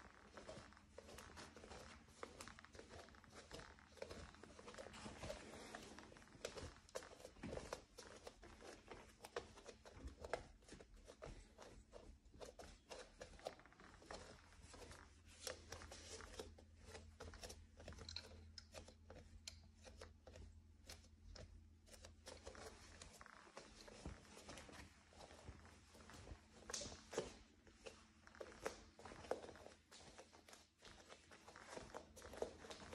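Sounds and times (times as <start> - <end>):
wooden floor creaking under steps: 0.0 - 32.9.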